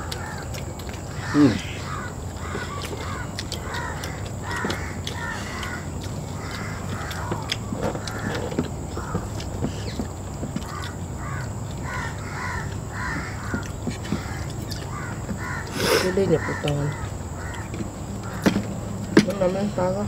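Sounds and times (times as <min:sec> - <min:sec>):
birds calling: 0:00.0 - 0:20.0
light clicks and taps on plates: 0:01.9 - 0:20.0.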